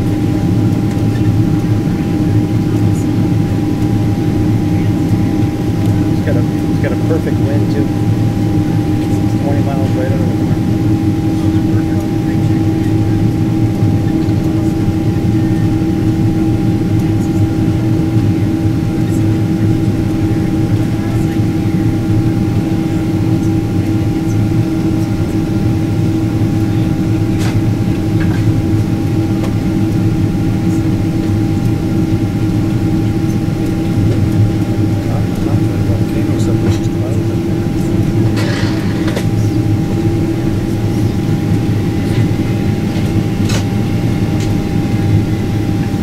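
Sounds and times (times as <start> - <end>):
airliner cabin engine rush: 0.0 - 46.0
low hum: 0.0 - 46.0.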